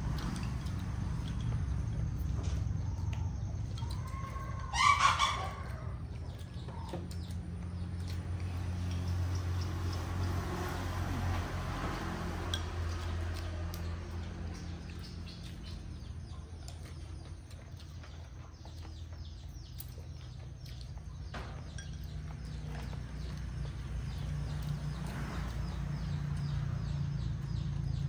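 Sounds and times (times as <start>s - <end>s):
bird chirping: 0.0s - 11.4s, 12.3s - 28.0s.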